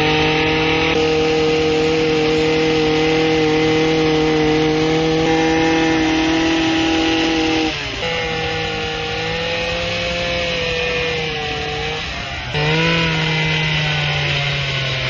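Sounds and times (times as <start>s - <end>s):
hedge trimmer cutting hedge: 0.0s - 15.0s
small petrol engine running: 0.0s - 15.0s.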